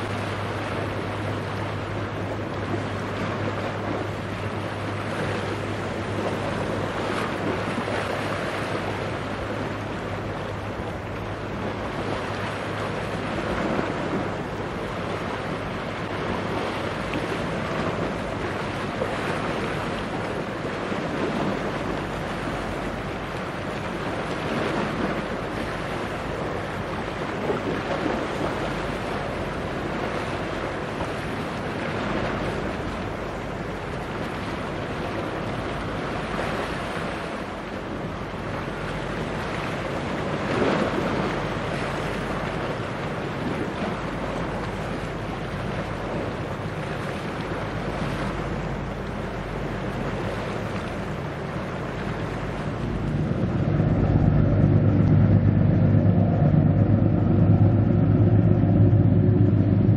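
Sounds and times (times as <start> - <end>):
sea waves washing: 0.0 - 59.9
wind on microphone: 0.0 - 59.9.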